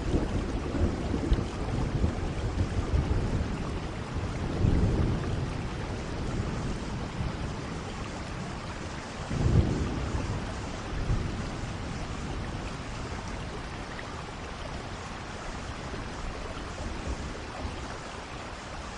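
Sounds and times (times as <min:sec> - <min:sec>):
low thunder rolls: 0:00.0 - 0:17.9
steady rain: 0:00.0 - 0:18.9.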